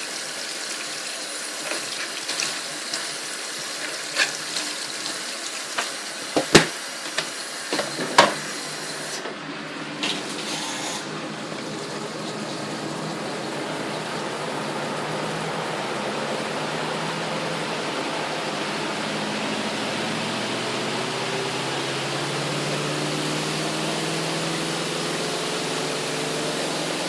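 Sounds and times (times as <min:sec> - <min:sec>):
water running into washing machine: 0:00.0 - 0:27.0.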